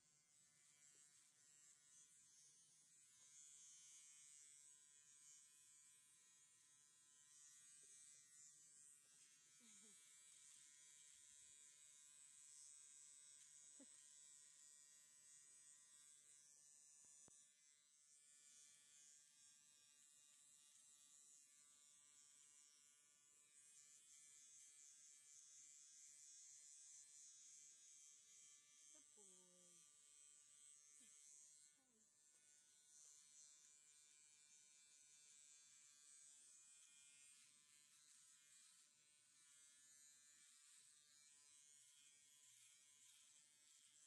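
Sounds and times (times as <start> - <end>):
electric clippers buzzing: 0.1 - 44.0.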